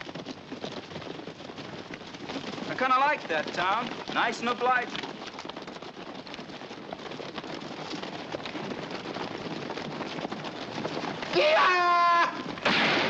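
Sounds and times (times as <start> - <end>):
horses galloping hoofbeats: 0.0 - 13.0.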